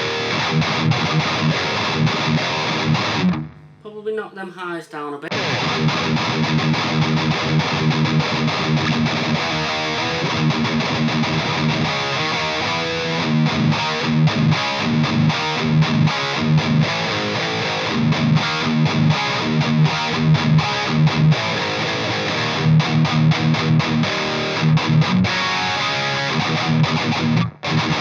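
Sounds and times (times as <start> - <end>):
distorted electric guitar chugging: 0.0 - 3.8, 5.3 - 28.0.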